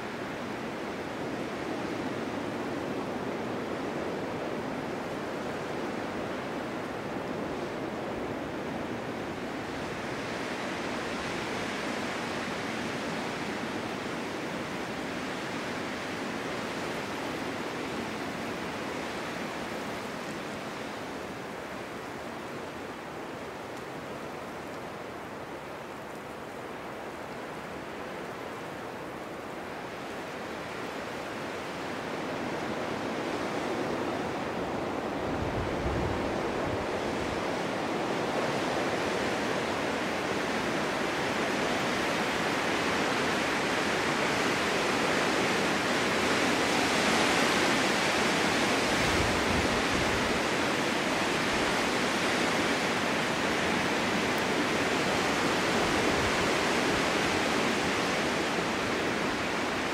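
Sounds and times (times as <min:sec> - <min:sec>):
wind blowing through forest: 0:00.0 - 0:59.9.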